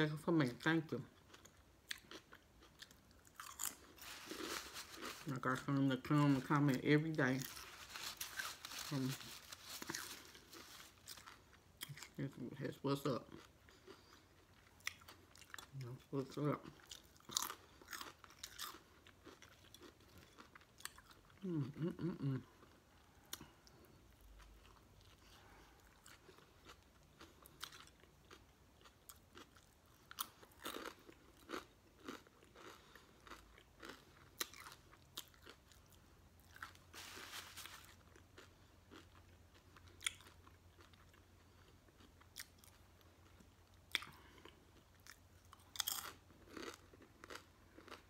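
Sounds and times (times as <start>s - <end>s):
person chewing wetly: 1.2s - 5.8s, 13.3s - 15.8s, 16.6s - 48.0s.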